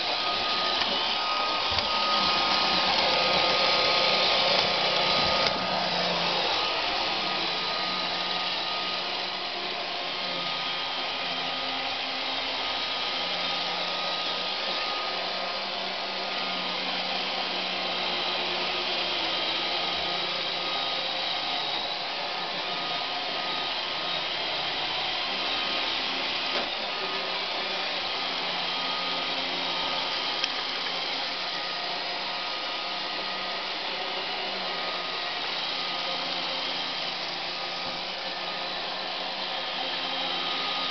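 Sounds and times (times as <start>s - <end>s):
robot vacuum running: 0.0s - 40.9s.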